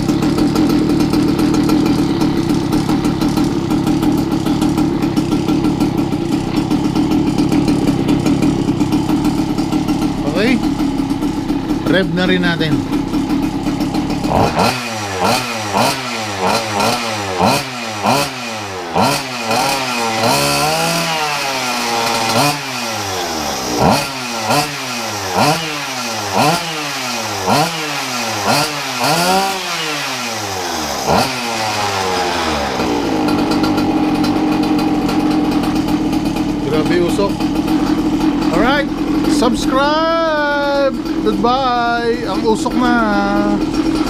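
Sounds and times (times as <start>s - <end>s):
scooter engine revving: 0.0s - 44.0s.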